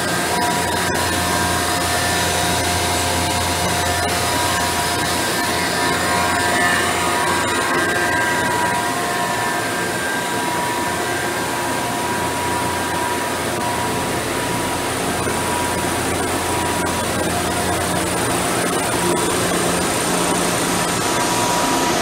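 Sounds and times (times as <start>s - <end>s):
faint steady whine tones: 0.0s - 22.0s
machinery humming and hissing: 0.0s - 22.0s.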